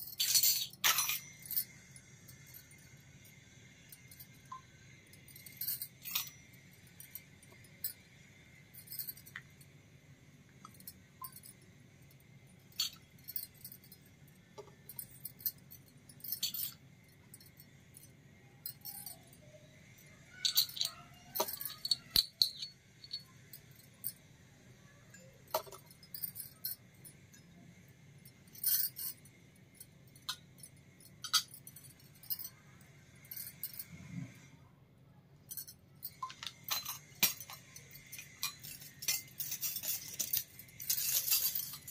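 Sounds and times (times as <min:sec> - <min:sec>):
toy metal pots clinking: 0:00.0 - 0:03.0, 0:03.9 - 0:09.6, 0:12.6 - 0:24.2, 0:24.9 - 0:27.7, 0:28.3 - 0:34.3, 0:35.5 - 0:41.9.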